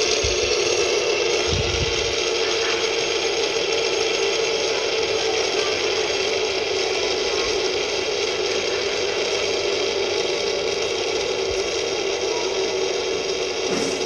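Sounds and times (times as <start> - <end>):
fidget spinner whirring: 0.0 - 14.0.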